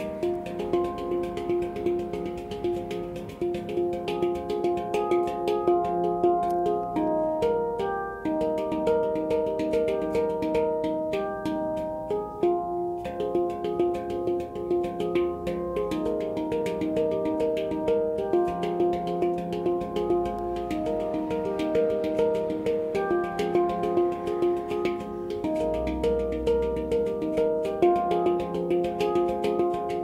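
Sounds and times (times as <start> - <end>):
handpan played with hands: 0.0 - 30.0.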